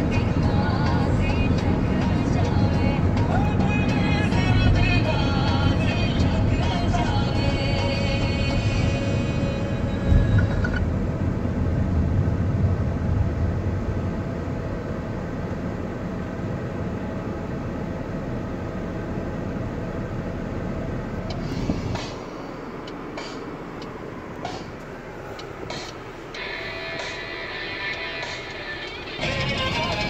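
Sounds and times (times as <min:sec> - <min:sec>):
road and engine rumble in car: 0:00.0 - 0:30.0.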